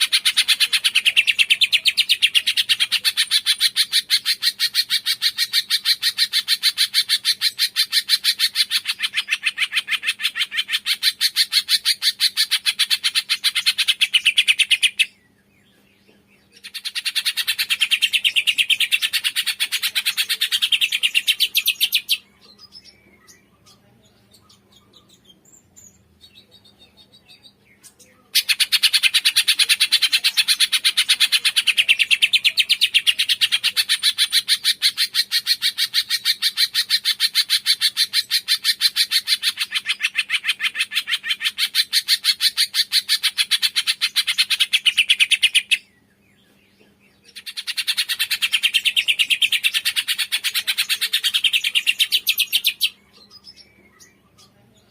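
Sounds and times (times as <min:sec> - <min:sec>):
songbird rapid high chirps: 0:00.0 - 0:54.9.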